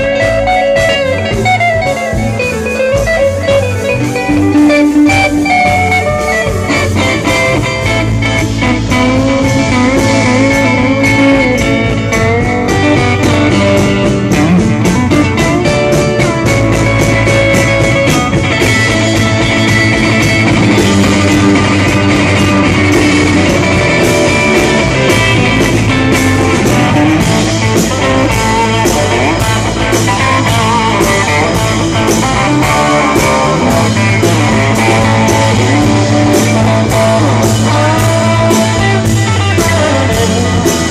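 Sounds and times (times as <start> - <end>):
bass guitar: 0.0 - 40.9
steady drum beat: 0.0 - 40.9.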